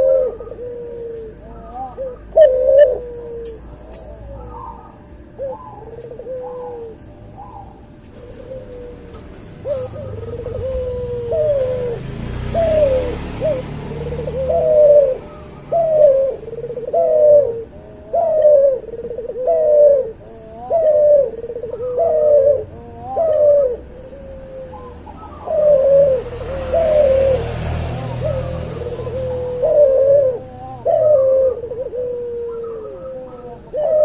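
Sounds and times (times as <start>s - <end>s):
dove cooing: 0.0s - 34.0s.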